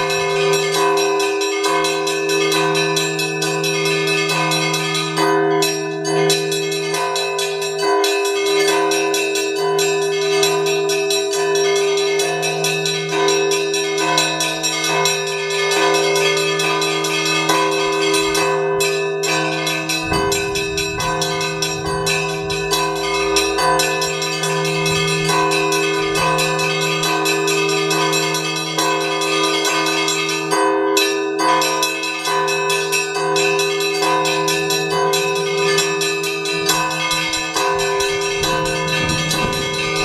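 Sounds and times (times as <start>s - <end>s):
large bell low ring: 0.0s - 40.0s
small church bells striking: 0.0s - 40.0s.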